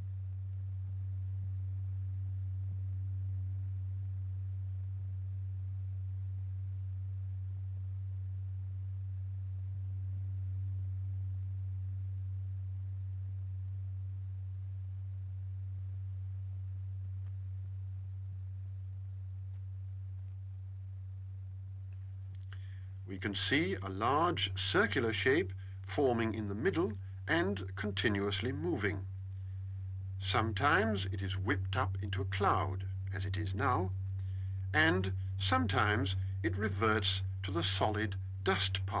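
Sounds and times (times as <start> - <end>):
steady low pure tone: 0.0 - 39.0.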